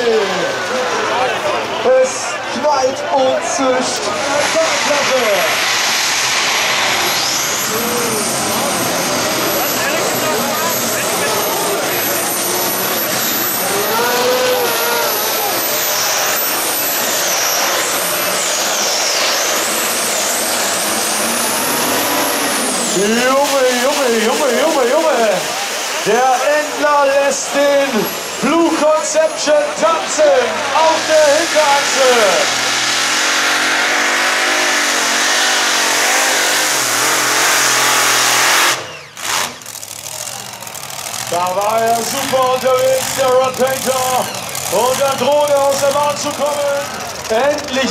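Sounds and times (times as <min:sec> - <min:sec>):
tractor engines running flat out: 0:00.0 - 0:47.9.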